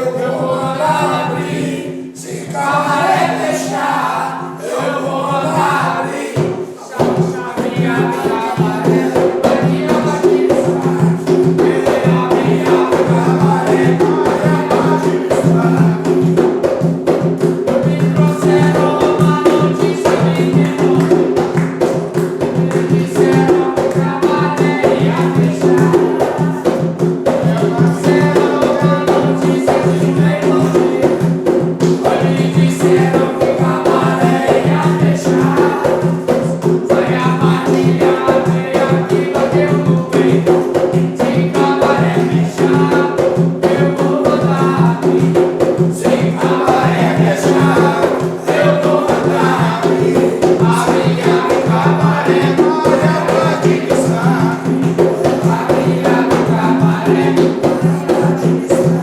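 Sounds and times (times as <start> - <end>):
group chanting: 0.0 - 59.0
percussion with rattles: 0.0 - 59.0.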